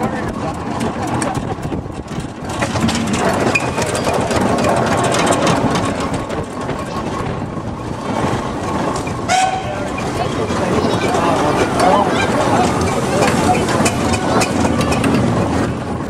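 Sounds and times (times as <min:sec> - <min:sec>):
steam traction engine clatter: 0:00.0 - 0:16.0.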